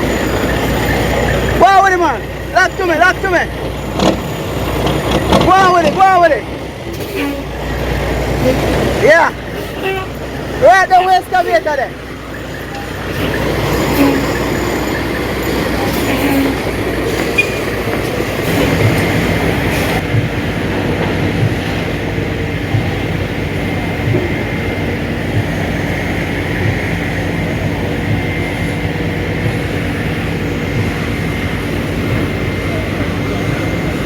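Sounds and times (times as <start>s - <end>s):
diesel machinery rumbling: 0.0s - 34.0s.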